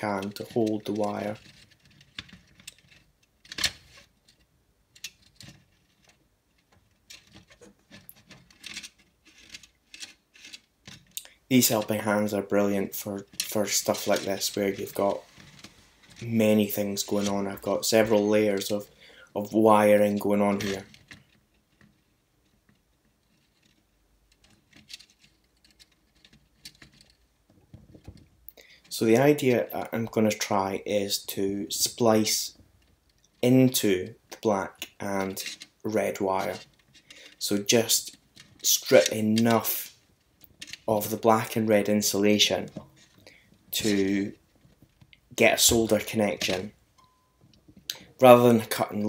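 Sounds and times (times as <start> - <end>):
hands handling plastic and wire: 0.0 - 29.9, 32.0 - 49.0.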